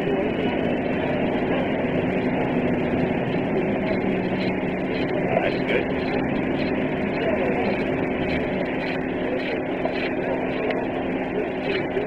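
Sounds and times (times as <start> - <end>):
machinery drone with low hum: 0.0 - 12.0.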